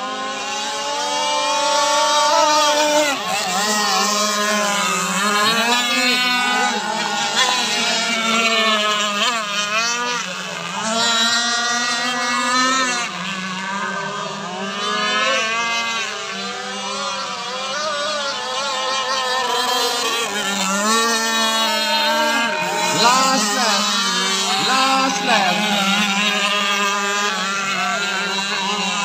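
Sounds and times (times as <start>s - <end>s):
small boat engines revving: 0.0s - 29.0s.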